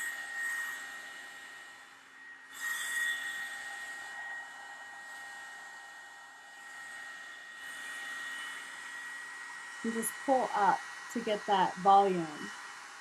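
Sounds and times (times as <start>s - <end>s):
hair dryer motor whine: 0.0s - 13.0s.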